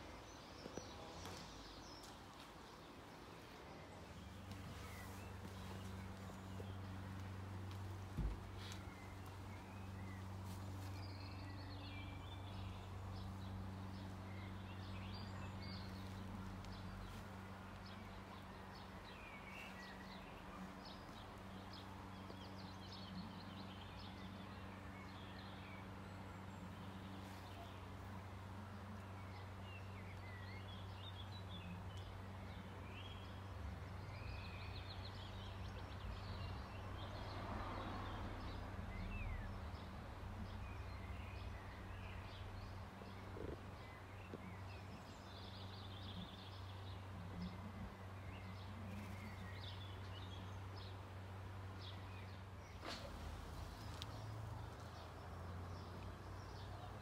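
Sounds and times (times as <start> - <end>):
small birds chirping and trilling: 0.0 - 37.4, 38.0 - 57.0.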